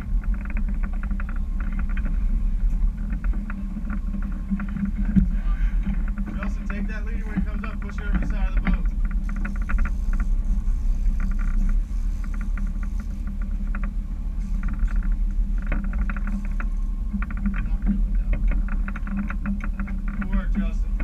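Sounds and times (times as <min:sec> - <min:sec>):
boat engine rumbling: 0:00.0 - 0:21.0
rapid ticking: 0:00.0 - 0:21.0.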